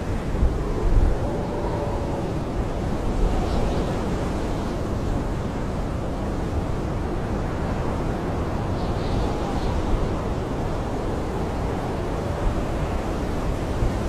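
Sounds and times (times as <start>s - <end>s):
blizzard wind howling around tent: 0.0s - 14.0s.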